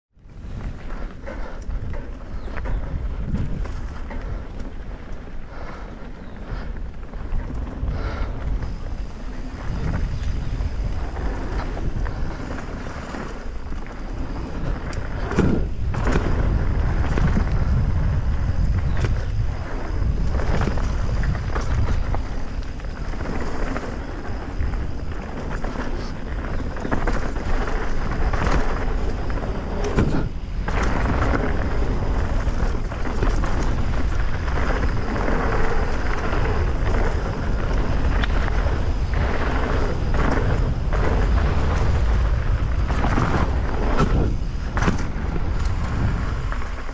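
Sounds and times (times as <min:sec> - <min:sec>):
bike tyre noise: 0:00.2 - 0:46.9
wind buffeting microphone: 0:00.2 - 0:46.9
bike rattling and clicking: 0:00.3 - 0:46.9
bike jolt: 0:07.3 - 0:46.9.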